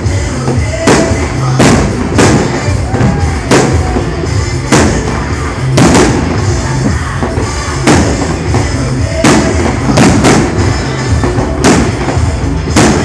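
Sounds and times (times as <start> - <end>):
music playing: 0.0 - 13.0
firework shells bursting: 0.5 - 13.0.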